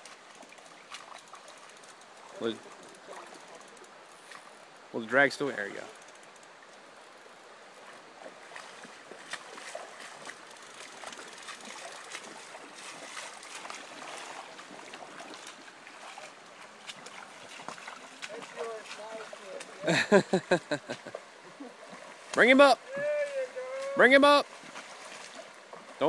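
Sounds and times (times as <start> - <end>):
small water splashes: 0.0 - 4.7, 5.7 - 26.0
river water rippling over rocks: 0.0 - 26.0.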